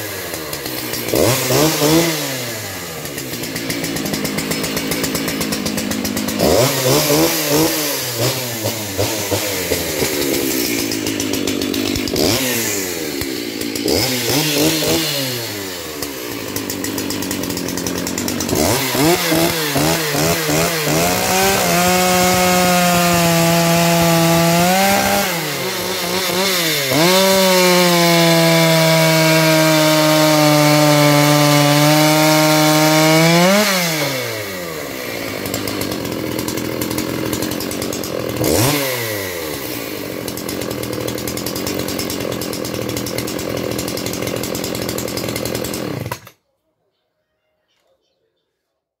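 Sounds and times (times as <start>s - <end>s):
chainsaw cutting through log: 0.0s - 46.4s
chainsaw idling: 0.0s - 46.4s.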